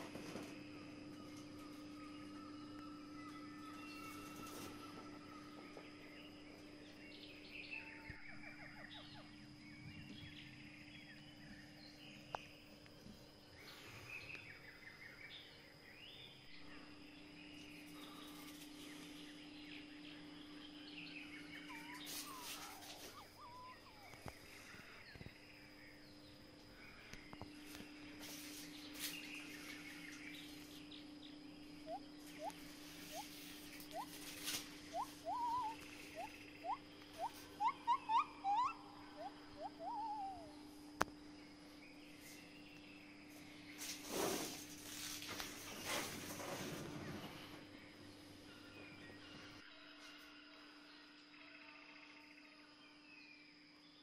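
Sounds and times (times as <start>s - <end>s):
faint birds chirping: 0.0s - 54.0s
steady low hum: 0.0s - 54.0s.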